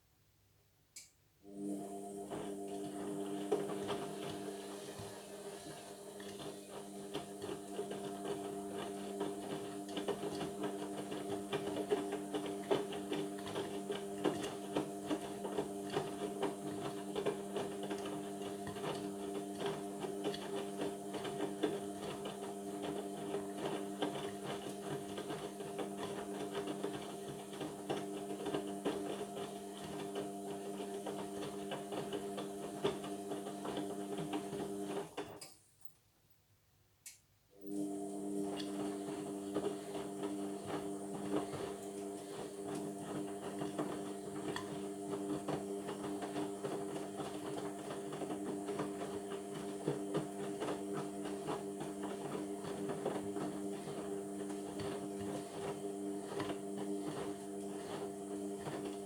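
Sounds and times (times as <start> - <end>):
washing machine motor hum: 1.4 - 35.3, 37.6 - 59.0.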